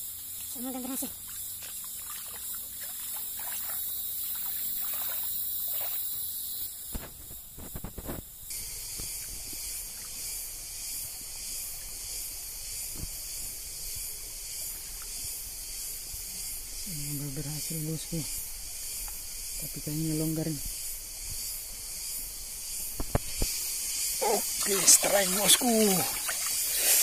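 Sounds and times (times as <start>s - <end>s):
high-pitched insect buzzing: 0.0s - 27.0s.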